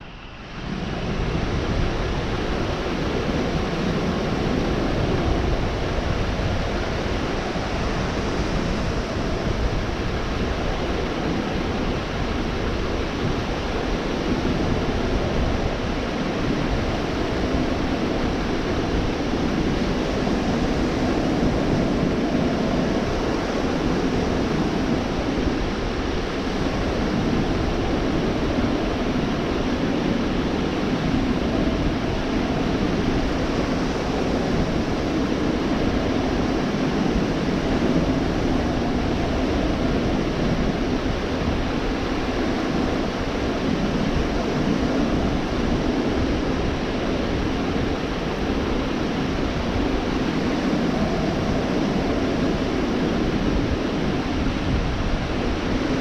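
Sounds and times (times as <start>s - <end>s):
surf breaking on a beach: 0.0s - 56.0s.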